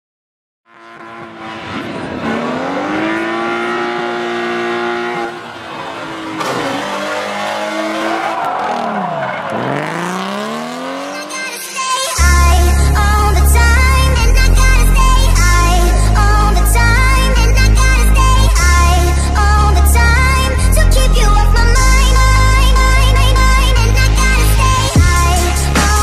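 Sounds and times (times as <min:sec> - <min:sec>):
car engine revving: 0:00.7 - 0:26.0.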